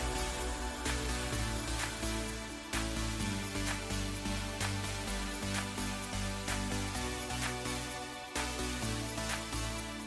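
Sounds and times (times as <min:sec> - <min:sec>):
electronic music with beat: 0:00.0 - 0:10.0.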